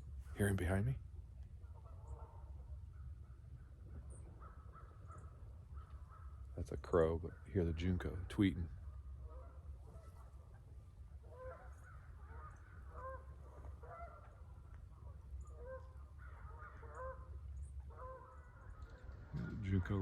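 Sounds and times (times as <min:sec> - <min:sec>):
small birds chirping: 0:00.0 - 0:20.0
large bird harsh calls: 0:01.7 - 0:10.5, 0:11.2 - 0:20.0.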